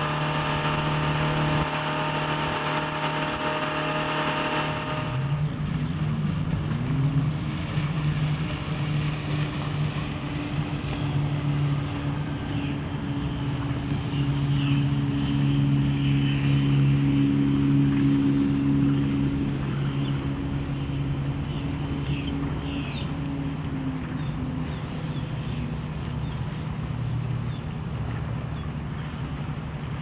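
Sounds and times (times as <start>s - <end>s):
boat inboard engine running: 0.0s - 30.0s.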